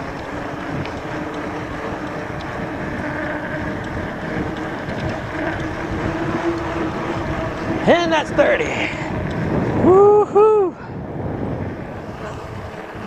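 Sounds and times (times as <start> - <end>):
tyre road noise: 0.0 - 13.0
wind on microphone: 0.0 - 13.0.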